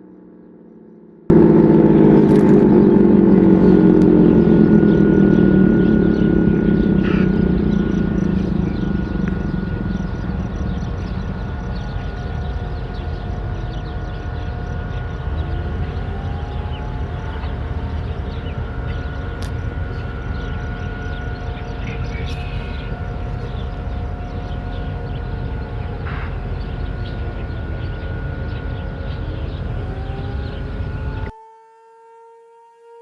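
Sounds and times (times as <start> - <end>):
outdoor noise rush: 1.3 - 31.3
warning siren winding down: 1.3 - 31.4.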